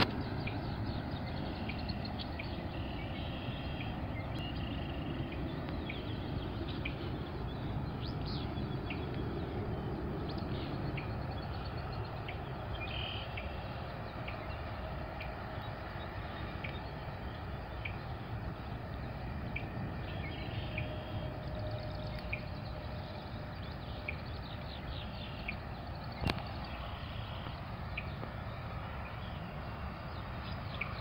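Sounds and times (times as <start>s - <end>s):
steady outdoor noise: 0.0s - 31.0s.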